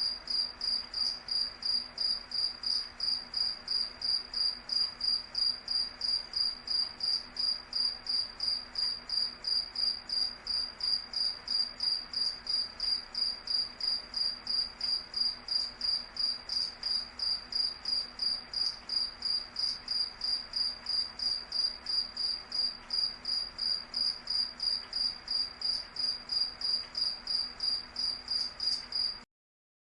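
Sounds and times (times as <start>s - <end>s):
cricket chirping: 0.0s - 29.2s.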